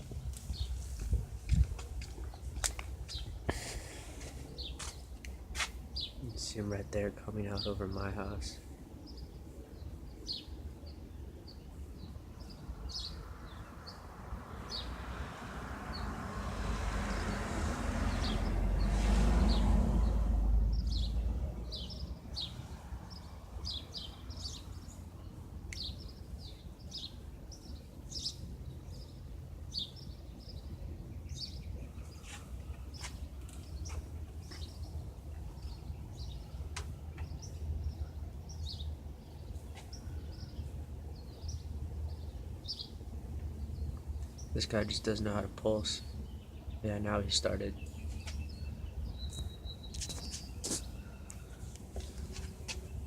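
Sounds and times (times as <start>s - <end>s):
small birds chirping: 0.0s - 15.1s, 18.1s - 53.0s.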